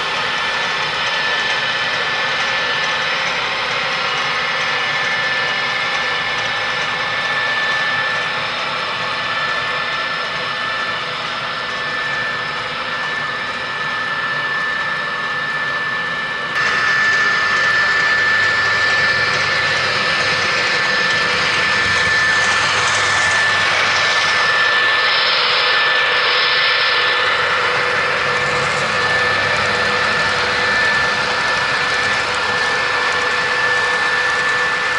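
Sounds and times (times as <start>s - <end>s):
model train diesel engine sound: 0.0s - 34.9s.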